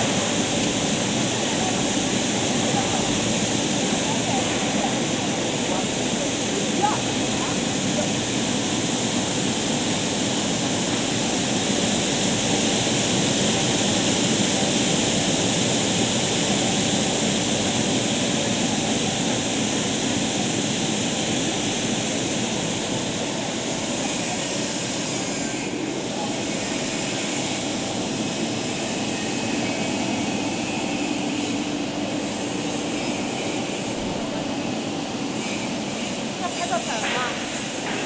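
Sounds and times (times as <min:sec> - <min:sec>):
washing machine churning water: 0:00.0 - 0:38.0.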